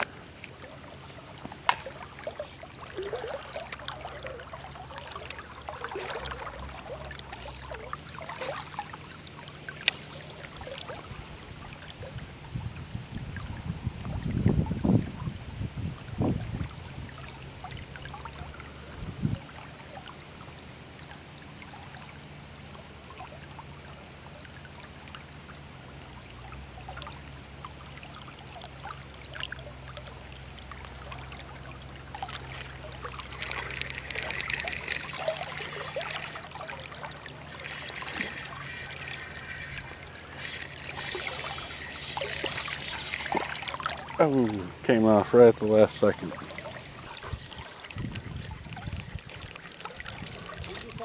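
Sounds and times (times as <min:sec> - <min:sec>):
river water flowing: 0:00.0 - 0:51.0
steady low hum: 0:00.0 - 0:51.0.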